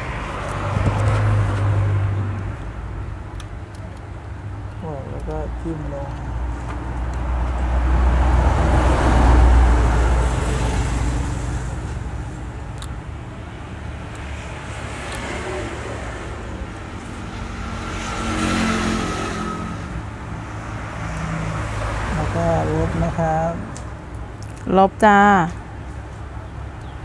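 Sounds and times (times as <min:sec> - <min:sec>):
road vehicle passing: 0:00.0 - 0:27.0.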